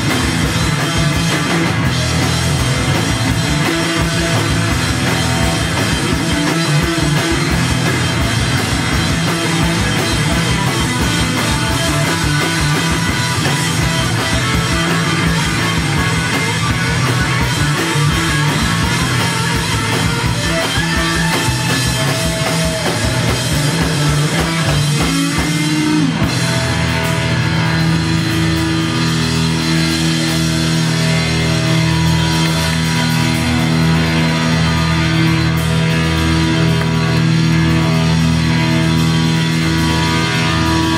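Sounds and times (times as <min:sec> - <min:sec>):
drumming: 0:00.0 - 0:40.9
held guitar chords: 0:00.0 - 0:40.9
live rock band: 0:00.0 - 0:40.9.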